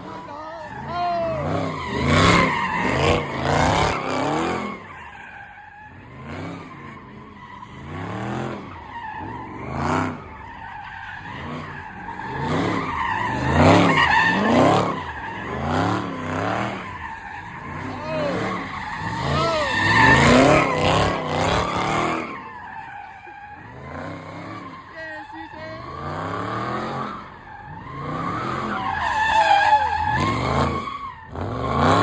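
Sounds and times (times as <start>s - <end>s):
car engine revving: 0.0s - 32.0s
tyres squealing: 0.1s - 5.7s, 10.7s - 32.0s.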